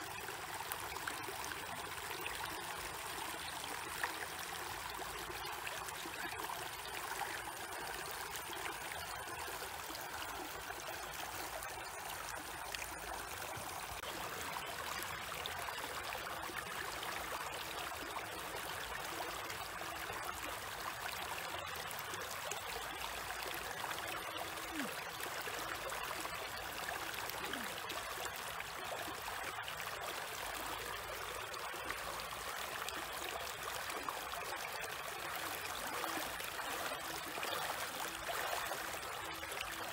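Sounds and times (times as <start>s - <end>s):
stream flowing and splashing: 0.0s - 39.9s.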